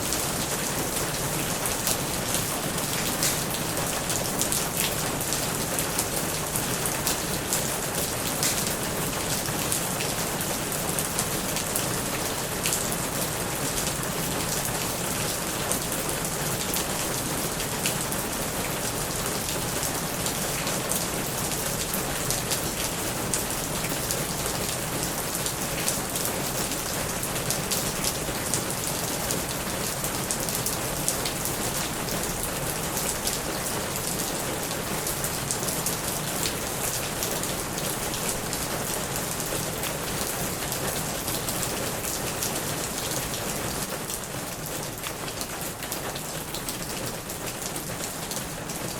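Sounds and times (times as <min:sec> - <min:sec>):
heavy rain on a plastic roof: 0:00.0 - 0:48.9.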